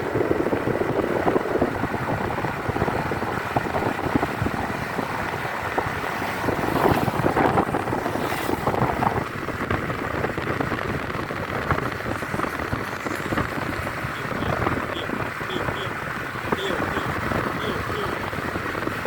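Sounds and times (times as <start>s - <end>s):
bus engine and road rumble: 0.0s - 19.0s
wind buffeting microphone: 0.0s - 19.0s.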